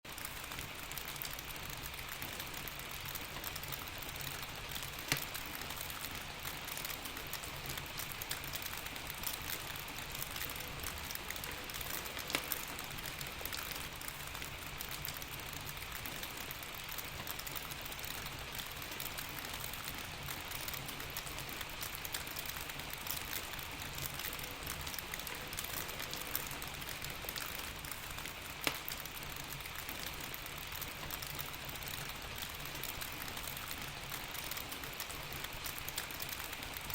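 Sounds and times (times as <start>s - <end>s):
steady rain falling: 0.1s - 36.9s
wood fire crackling pops: 0.2s - 36.9s.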